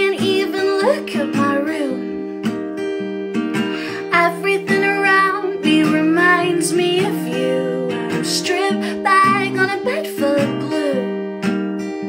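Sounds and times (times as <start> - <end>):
woman singing: 0.0 - 2.3, 3.8 - 11.4
acoustic guitar strumming: 0.0 - 12.0.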